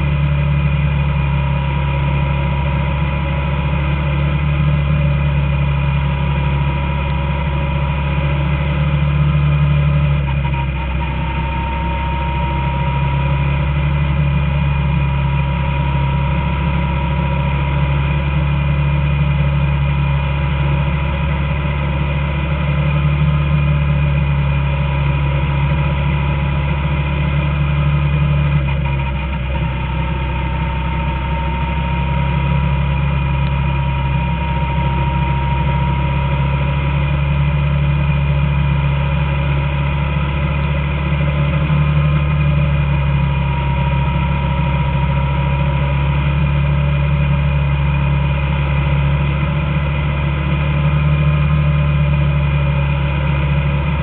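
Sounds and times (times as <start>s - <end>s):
race car engine at speed: 0.0s - 54.0s.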